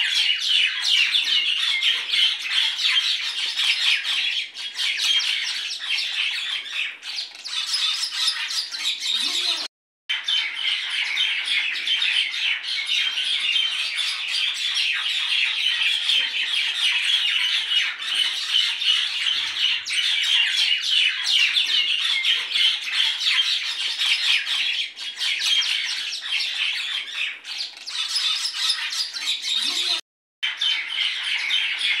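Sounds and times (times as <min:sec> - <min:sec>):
birds chirping and squawking: 0:00.0 - 0:32.0.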